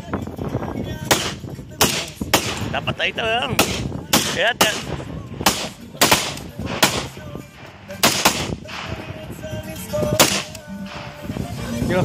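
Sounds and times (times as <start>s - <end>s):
rifle shots with echo: 1.0s - 11.3s.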